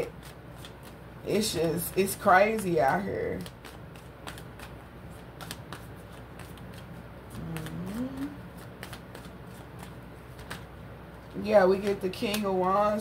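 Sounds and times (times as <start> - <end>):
cards shuffling and flicking: 0.0 - 13.0.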